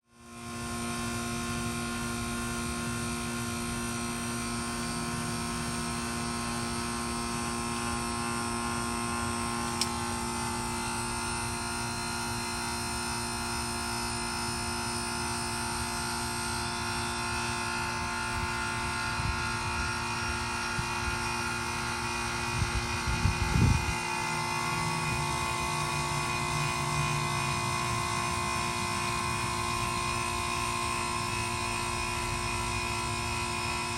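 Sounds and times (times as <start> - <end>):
heat pump humming: 0.0 - 33.9.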